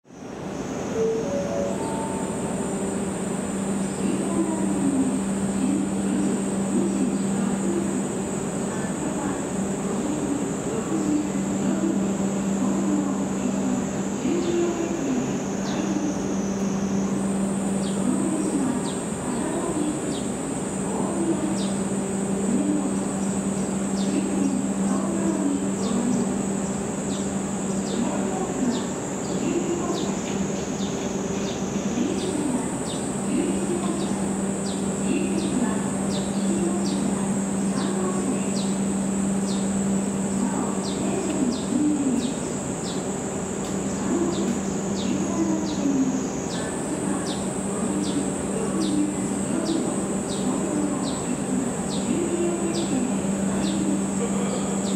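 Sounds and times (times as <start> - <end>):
cicadas shrilling: 0.4 - 54.9.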